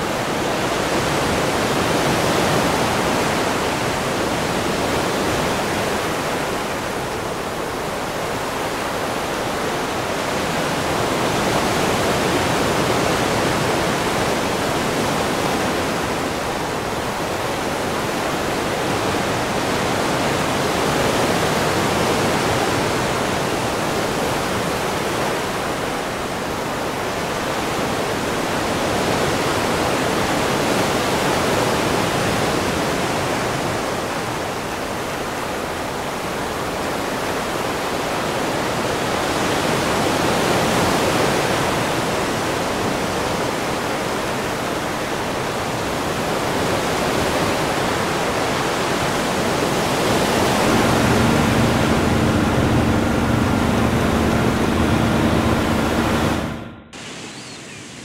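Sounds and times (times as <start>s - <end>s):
ocean waves washing: 0.0s - 58.0s.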